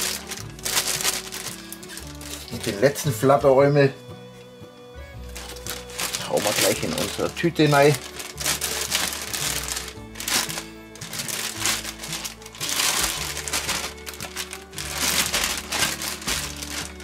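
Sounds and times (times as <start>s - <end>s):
plastic bag crinkling: 0.0s - 3.0s, 5.3s - 17.0s
background music with held notes: 0.0s - 17.0s.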